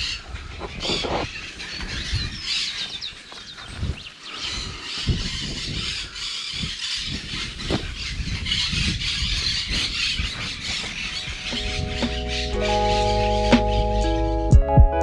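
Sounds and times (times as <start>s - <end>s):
wind buffeting microphone: 0.0s - 12.6s
many birds calling: 0.0s - 14.5s.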